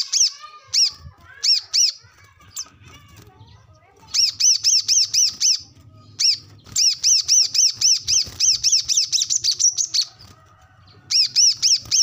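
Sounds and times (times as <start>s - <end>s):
bird chattering song with trill: 0.0s - 12.0s.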